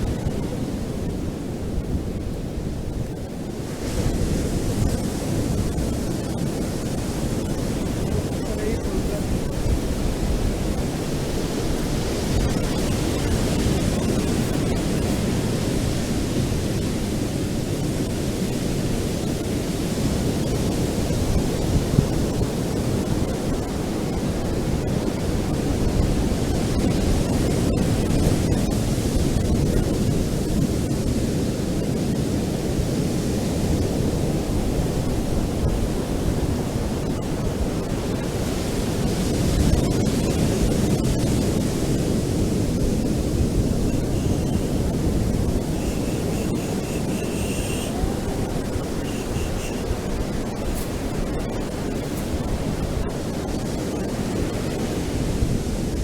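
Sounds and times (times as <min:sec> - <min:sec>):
ocean surf washing: 0:00.0 - 0:56.0.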